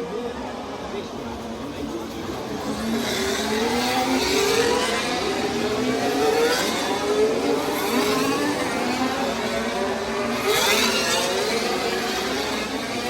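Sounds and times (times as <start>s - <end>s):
race car engines accelerating past: 1.5s - 13.0s.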